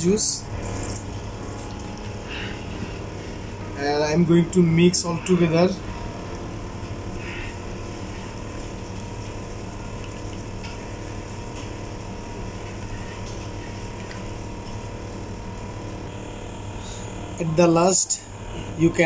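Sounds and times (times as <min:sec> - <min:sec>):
air-handling equipment humming: 0:00.0 - 0:19.0.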